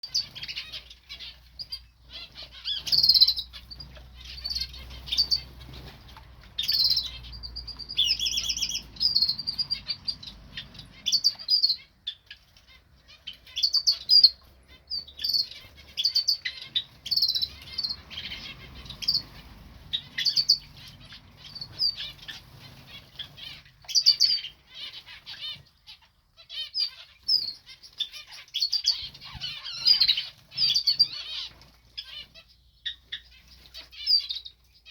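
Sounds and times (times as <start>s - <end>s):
birds chirping and tweeting: 0.0s - 34.9s.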